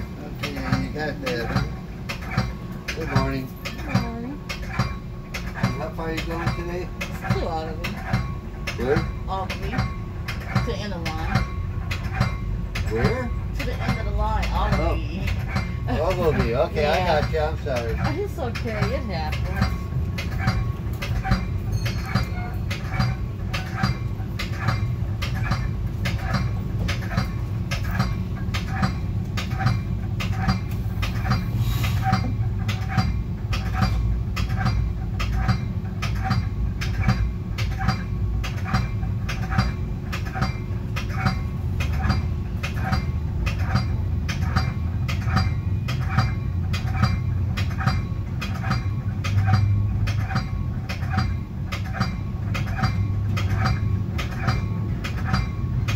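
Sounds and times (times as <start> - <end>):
train rumbling on track: 0.0 - 55.9
train wheels clicking: 0.0 - 55.9.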